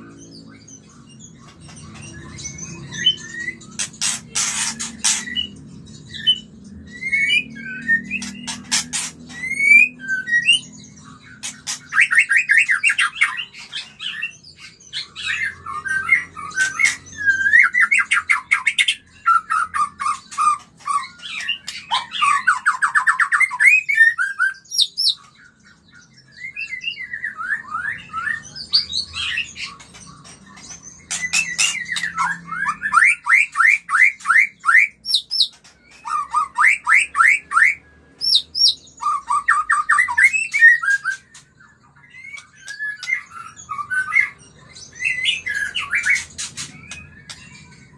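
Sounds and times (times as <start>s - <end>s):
bird singing: 0.0s - 47.9s.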